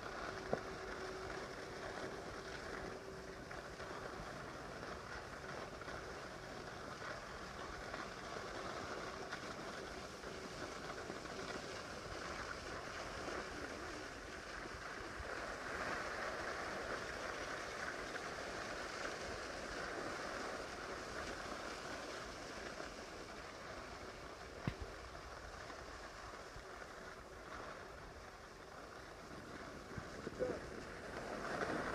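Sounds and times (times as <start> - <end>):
skis scraping over packed snow: 0.0 - 31.9.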